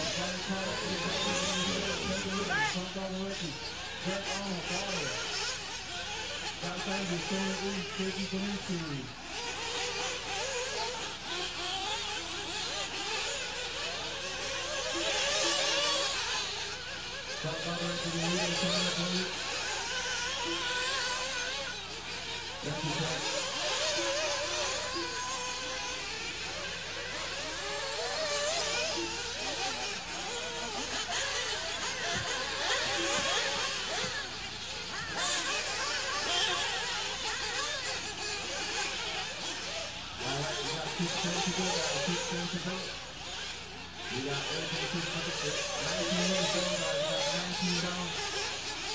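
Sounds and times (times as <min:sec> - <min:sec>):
rc car engines buzzing and revving: 0:00.0 - 0:48.9.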